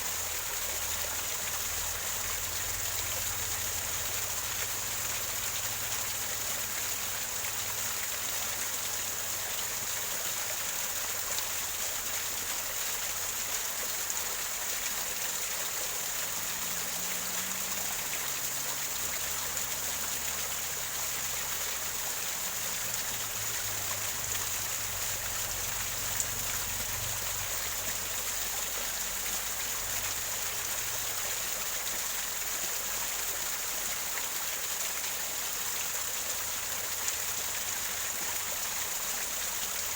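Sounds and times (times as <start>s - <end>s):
small waterfall gurgling over rocks: 0.0s - 39.9s.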